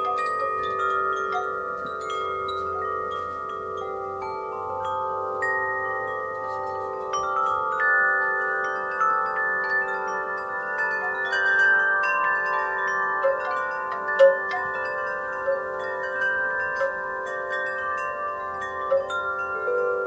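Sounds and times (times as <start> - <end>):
metal wind chimes ringing: 0.0 - 20.0.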